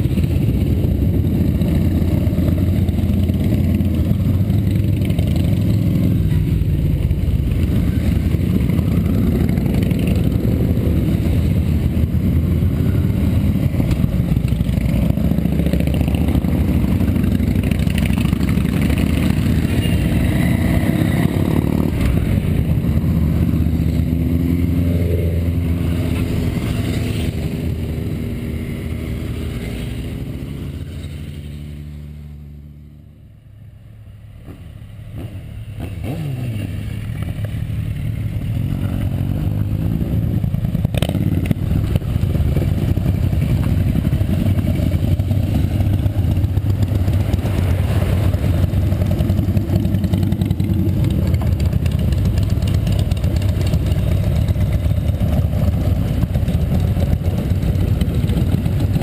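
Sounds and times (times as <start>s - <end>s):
motorcycles riding past: 0.0s - 33.4s, 34.1s - 59.0s.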